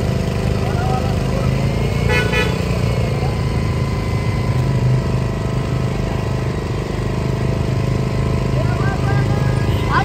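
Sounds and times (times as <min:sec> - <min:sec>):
engine running with low rumble: 0:00.0 - 0:10.0.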